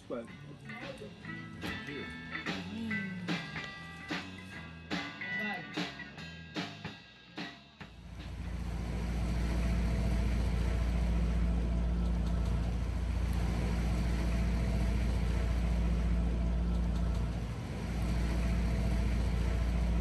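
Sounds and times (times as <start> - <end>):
boat engine droning: 0.0 - 4.8, 7.9 - 20.0.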